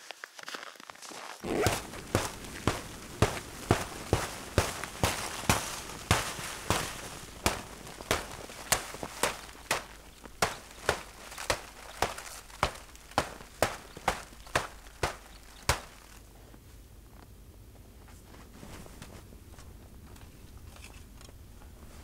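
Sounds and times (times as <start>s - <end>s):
footsteps crunching in snow: 0.0s - 20.0s.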